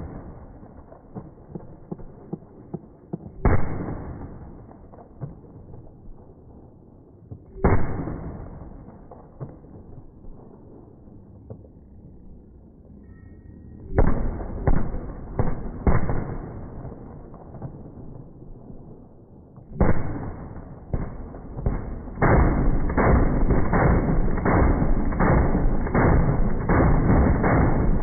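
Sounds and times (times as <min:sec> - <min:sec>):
slowed machine gun shots: 0:00.0 - 0:11.8, 0:13.8 - 0:28.0.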